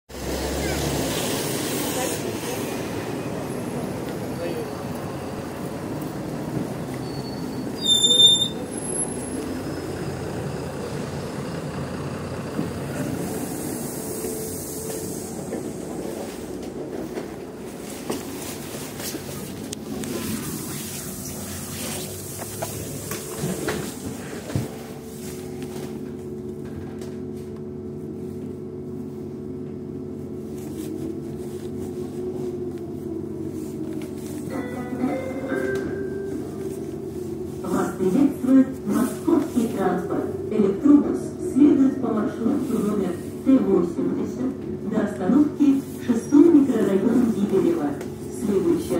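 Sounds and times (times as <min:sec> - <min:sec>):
electric bus low hum: 0:00.1 - 0:48.9.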